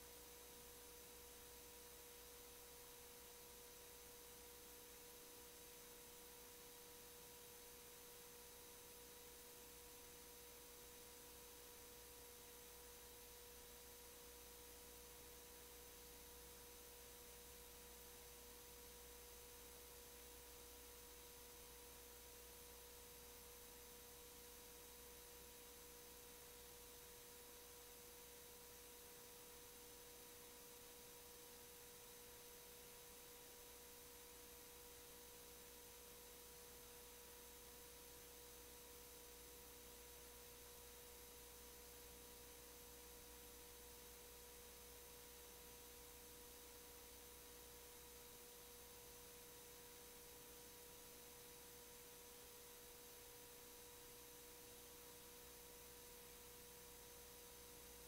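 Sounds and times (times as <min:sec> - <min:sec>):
faint steady pure tone: 0:00.0 - 0:58.0.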